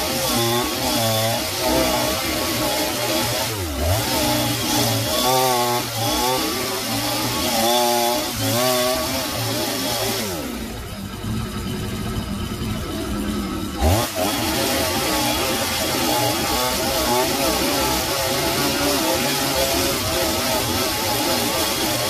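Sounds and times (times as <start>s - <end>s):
chainsaw cutting a log: 0.0s - 22.0s.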